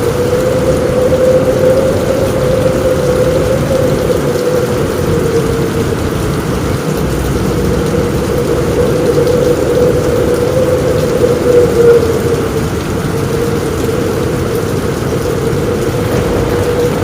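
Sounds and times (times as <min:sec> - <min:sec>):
heavy rain on a roof: 0:00.0 - 0:17.0.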